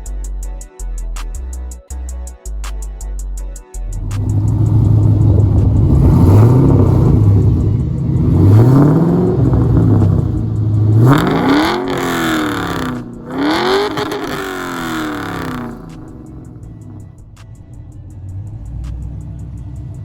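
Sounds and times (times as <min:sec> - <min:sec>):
car engine idling and revving: 0:03.9 - 0:20.0.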